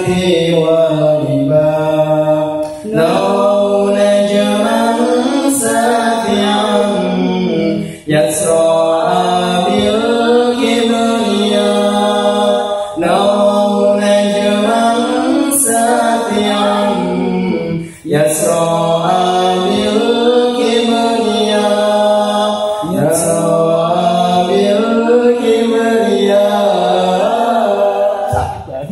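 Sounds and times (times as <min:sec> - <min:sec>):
voices singing a cappella: 0:00.0 - 0:28.9.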